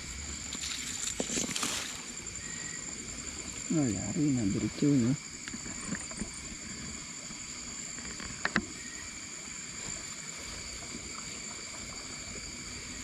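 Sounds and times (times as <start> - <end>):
high insect trill: 0.0 - 13.0
water sloshing from wading: 0.0 - 13.0.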